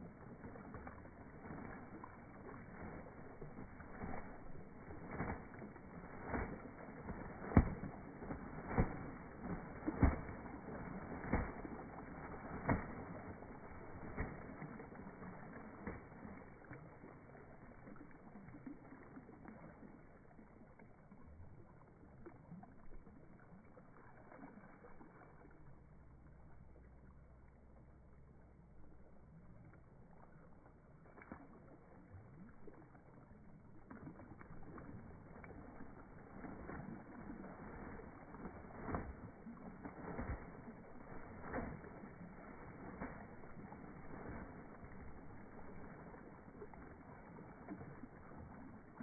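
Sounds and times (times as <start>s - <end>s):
duck splashing in water: 0.0s - 27.0s, 28.8s - 49.0s.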